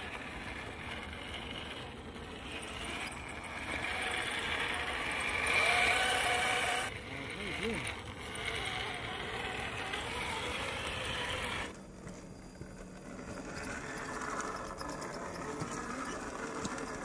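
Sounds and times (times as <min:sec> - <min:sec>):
toy truck motor whining: 0:00.0 - 0:11.8, 0:12.8 - 0:17.0.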